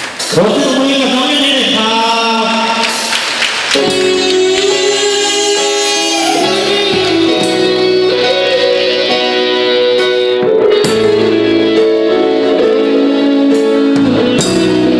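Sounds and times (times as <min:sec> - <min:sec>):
live band playing: 0:00.0 - 0:14.9.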